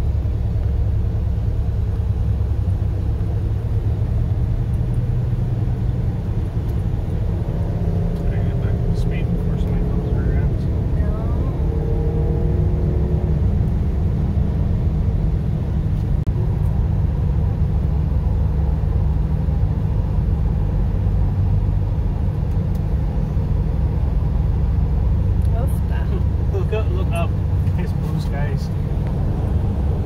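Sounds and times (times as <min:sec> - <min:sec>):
car road noise: 0:00.0 - 0:30.0
wind blowing around car: 0:00.0 - 0:30.0.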